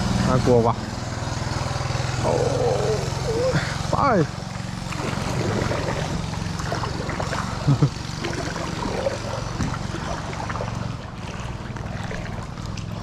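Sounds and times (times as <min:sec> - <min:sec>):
loud engine blips: 0:00.0 - 0:13.0
motorboat engine droning: 0:00.0 - 0:13.0.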